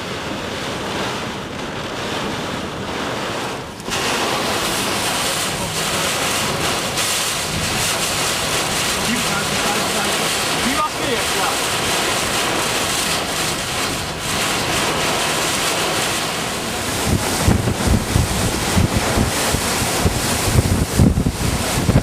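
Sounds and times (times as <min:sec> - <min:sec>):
storm wind gusts: 0:00.0 - 0:22.0
wind buffeting microphone: 0:00.0 - 0:22.0.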